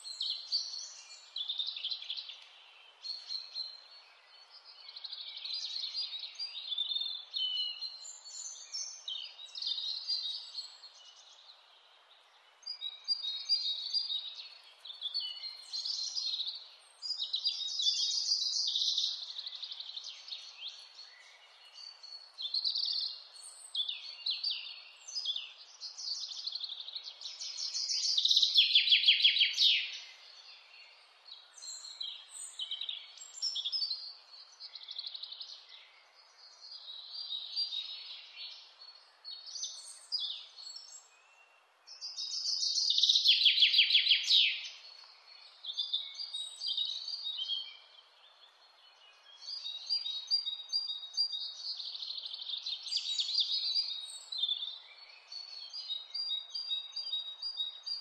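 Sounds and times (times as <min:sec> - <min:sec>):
faint outdoor hiss: 0:00.0 - 0:58.0
songbirds singing: 0:00.0 - 0:58.0.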